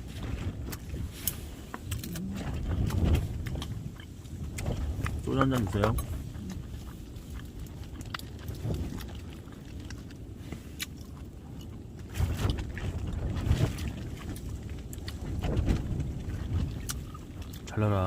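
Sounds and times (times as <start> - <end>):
wind buffeting tent and microphone: 0.0 - 18.0.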